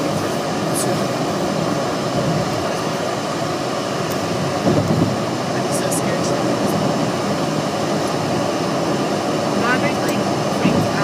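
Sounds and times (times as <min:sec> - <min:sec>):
car road noise from cabin: 0:00.0 - 0:11.0.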